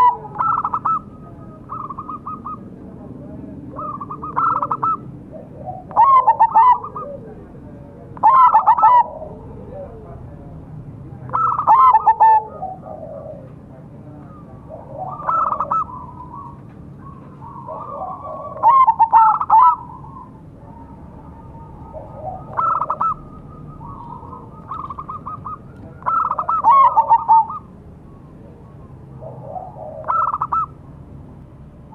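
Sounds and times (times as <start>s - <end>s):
dove cooing: 0.0s - 10.5s, 11.2s - 31.0s.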